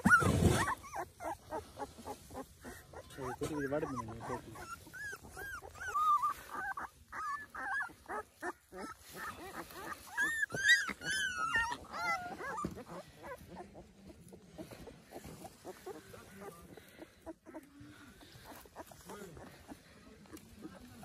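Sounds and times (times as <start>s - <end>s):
puppies whining and squealing: 0.0s - 21.0s.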